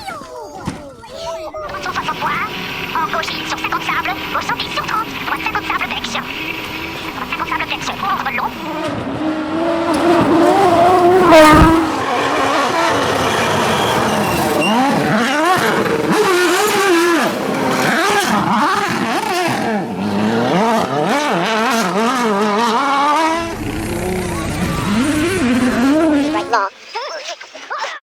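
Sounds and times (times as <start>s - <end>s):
rally car engine revving: 1.6s - 26.5s.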